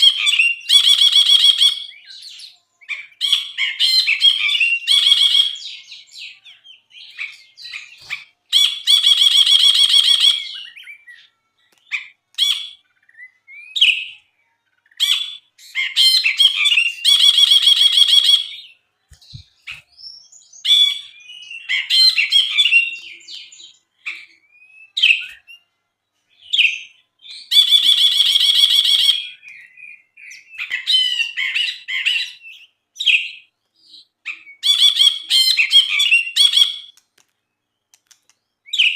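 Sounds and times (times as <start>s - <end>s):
bulbul singing: 0.0s - 37.0s.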